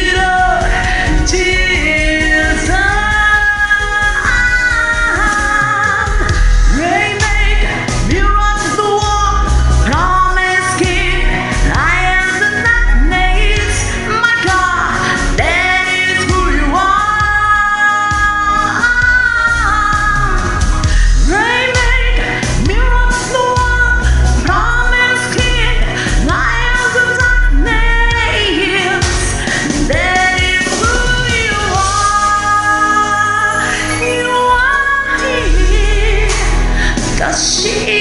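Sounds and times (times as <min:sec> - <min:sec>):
instrumental backing music: 0:00.0 - 0:38.0
woman singing gospel song: 0:00.0 - 0:38.0.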